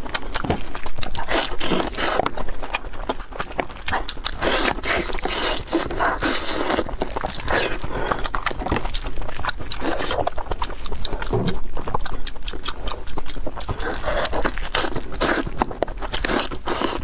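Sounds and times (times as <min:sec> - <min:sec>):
chewing and tearing meat: 0:00.0 - 0:17.0
wet mouth clicks and smacks: 0:00.0 - 0:17.0.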